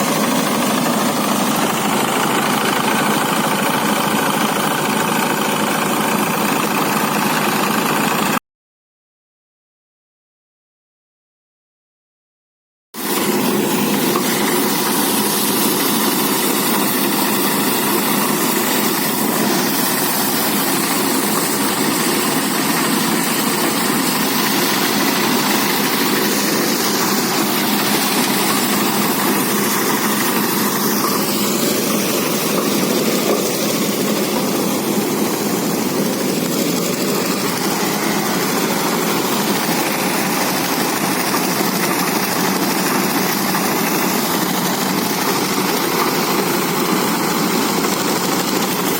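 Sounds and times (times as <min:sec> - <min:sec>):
threshing machine running: 0:00.0 - 0:08.4, 0:13.0 - 0:48.9.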